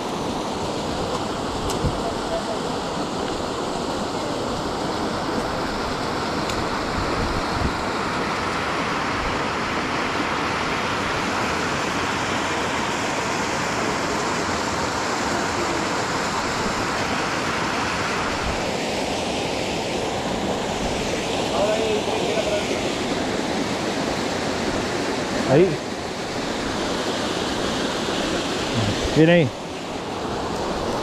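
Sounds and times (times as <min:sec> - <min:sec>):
mountain stream rushing: 0:00.0 - 0:31.0.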